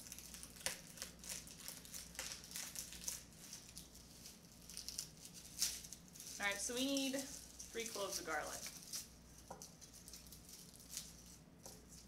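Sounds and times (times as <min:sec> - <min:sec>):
garlic skins crackling: 0:00.0 - 0:12.0.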